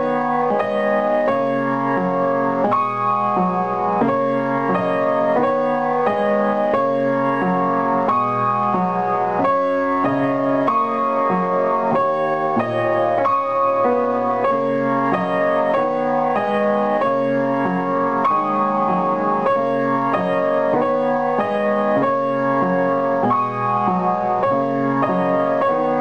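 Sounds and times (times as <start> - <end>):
piano duet: 0.0 - 26.0.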